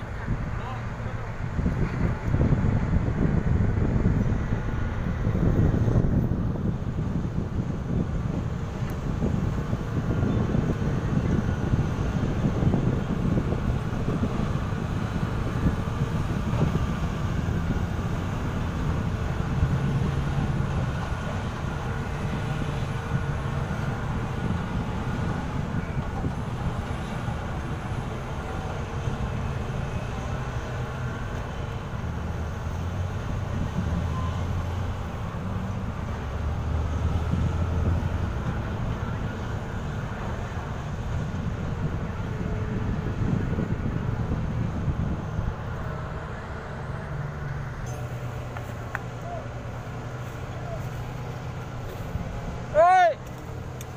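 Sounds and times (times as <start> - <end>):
diesel engine rumbling: 0.0 - 53.9.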